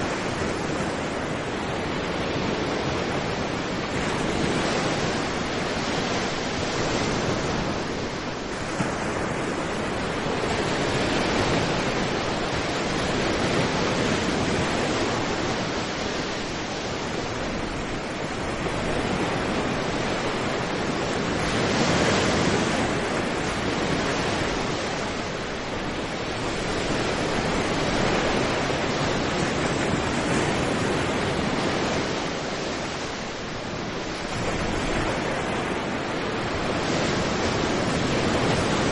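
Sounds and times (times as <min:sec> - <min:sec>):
sea waves breaking on beach: 0:00.0 - 0:38.9.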